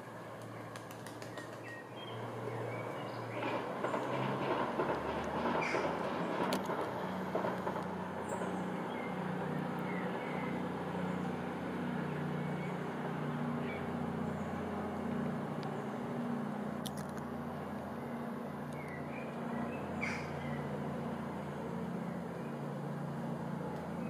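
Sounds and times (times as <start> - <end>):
train diesel engines droning: 0.0 - 0.7, 1.5 - 24.0.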